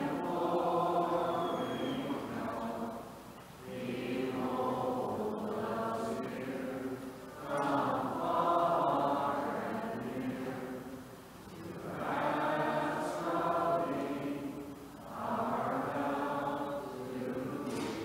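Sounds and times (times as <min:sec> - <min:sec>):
group singing a slow hymn: 0:00.0 - 0:18.0.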